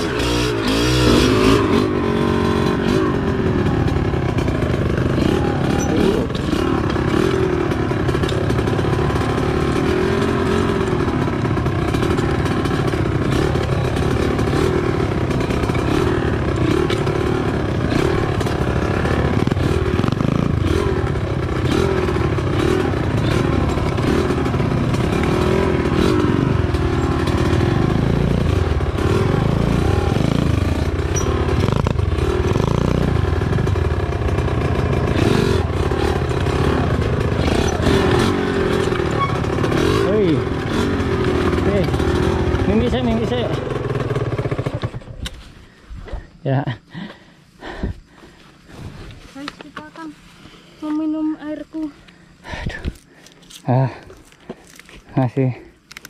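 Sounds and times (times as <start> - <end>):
small motorcycle engine revving: 0.0 - 45.3.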